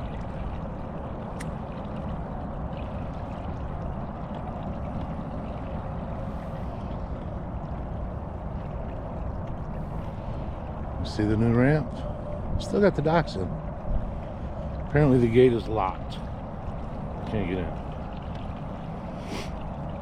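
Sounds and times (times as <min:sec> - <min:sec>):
motorboat engine drone: 0:00.0 - 0:20.0
water washing along hull: 0:00.0 - 0:20.0.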